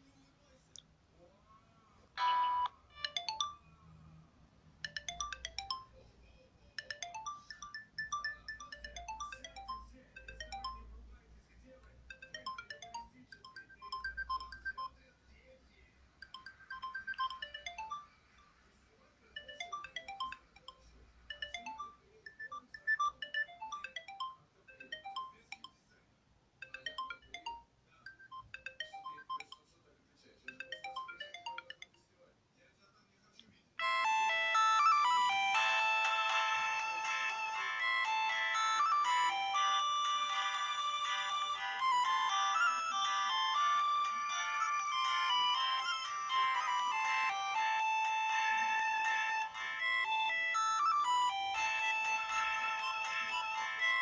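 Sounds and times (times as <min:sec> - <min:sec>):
phone ringtone melody: 0:02.2 - 0:03.8, 0:04.8 - 0:06.1, 0:06.7 - 0:11.0, 0:12.0 - 0:15.0, 0:16.2 - 0:18.4, 0:19.3 - 0:25.8, 0:26.6 - 0:29.7, 0:30.4 - 0:32.0, 0:33.8 - 0:54.0.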